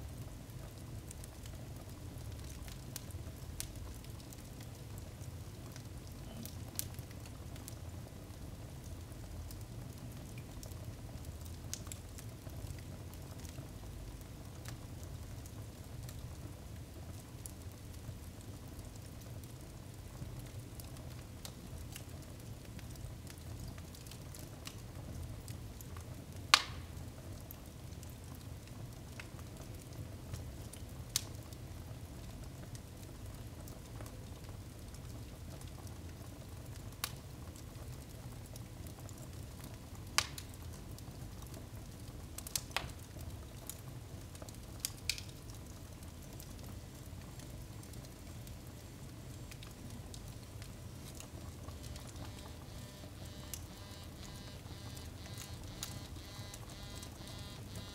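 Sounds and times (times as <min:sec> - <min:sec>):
fire crackles and pops: 0:00.0 - 0:57.9
firewood burning: 0:00.0 - 0:57.9.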